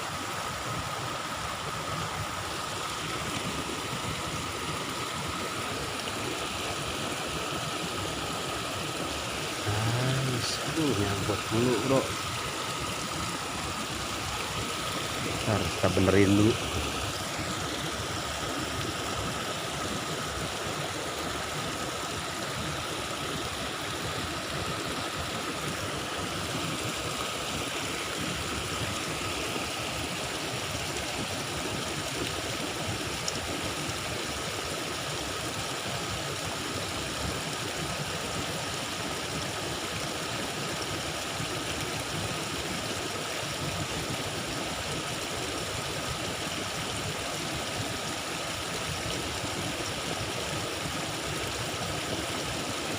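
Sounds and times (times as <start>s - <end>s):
fast-flowing stream rushing: 0.0s - 52.9s.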